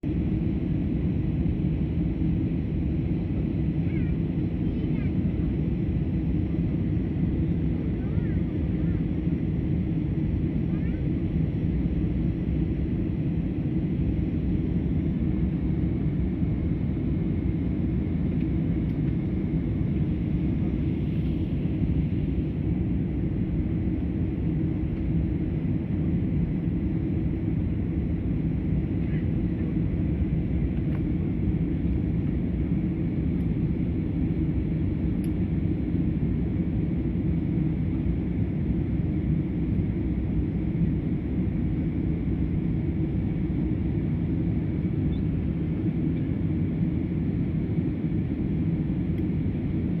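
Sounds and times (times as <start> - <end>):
jet cabin engine rumble: 0.0 - 50.0.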